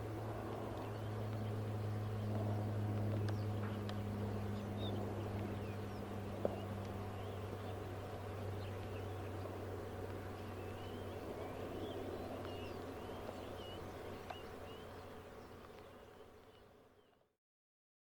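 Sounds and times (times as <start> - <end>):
distant turboprop engines droning: 0.0 - 17.3
small birds chirping: 0.0 - 17.3.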